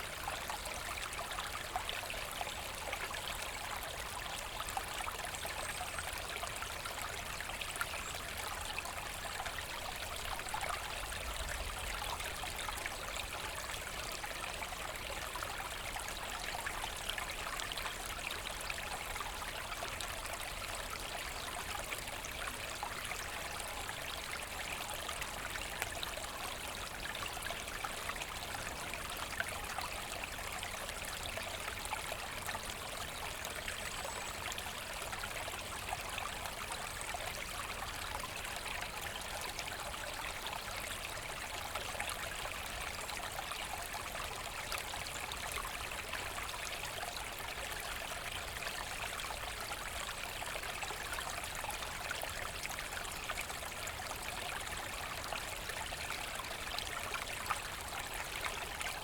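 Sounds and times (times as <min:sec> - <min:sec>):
brook babbling: 0:00.0 - 0:59.0.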